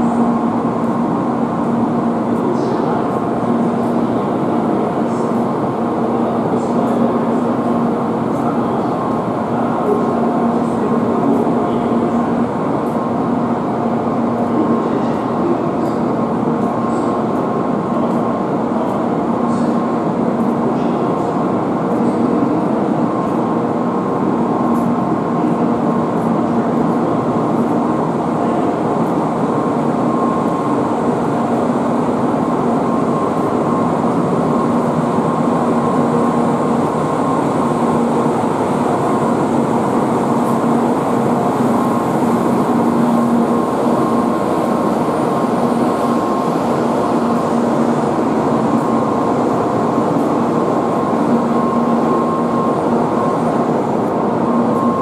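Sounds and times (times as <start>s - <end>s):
train equipment humming: 0.0s - 55.0s.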